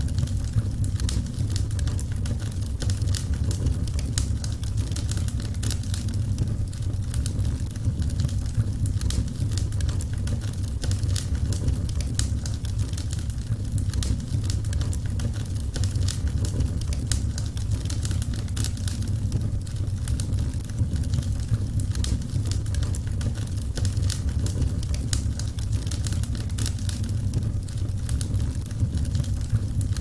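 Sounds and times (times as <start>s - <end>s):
low roar of flame: 0.0s - 30.0s
wood fire crackling and popping: 0.0s - 30.0s.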